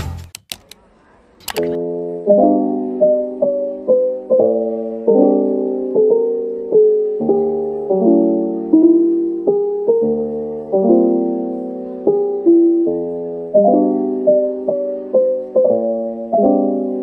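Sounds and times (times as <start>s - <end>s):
piano music: 1.5s - 17.0s.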